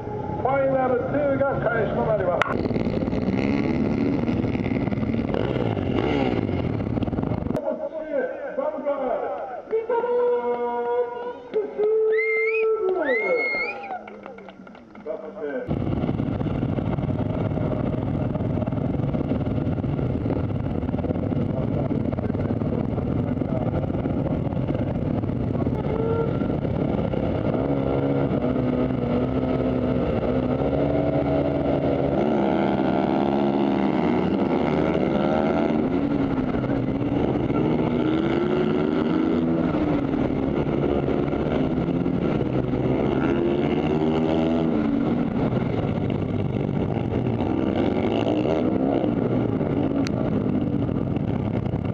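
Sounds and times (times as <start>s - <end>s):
motorcycle engines accelerating: 0.0s - 51.9s.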